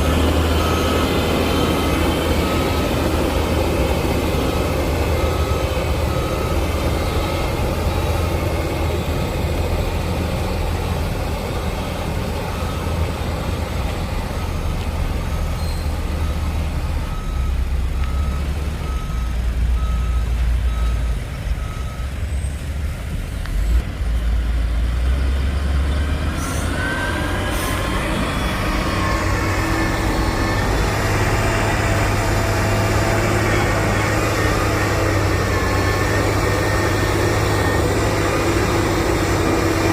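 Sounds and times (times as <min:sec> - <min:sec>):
reversing alarm beeping: 0:00.0 - 0:09.4, 0:10.9 - 0:22.2, 0:26.4 - 0:39.9
heavy diesel engine: 0:00.0 - 0:39.9.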